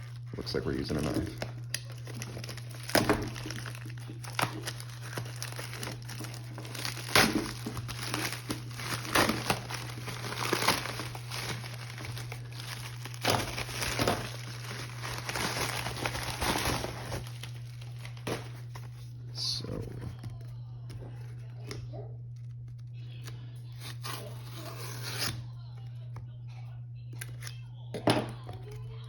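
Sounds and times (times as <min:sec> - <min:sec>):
wrapping crinkling and rustling: 0:00.0 - 0:25.3
steady low hum: 0:00.0 - 0:29.0.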